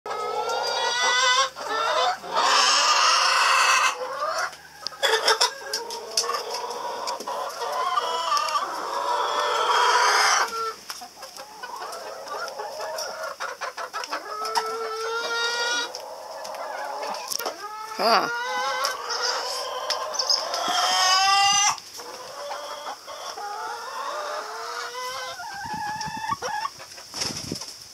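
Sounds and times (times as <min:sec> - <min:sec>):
hens clucking and squawking: 0:00.1 - 0:27.9.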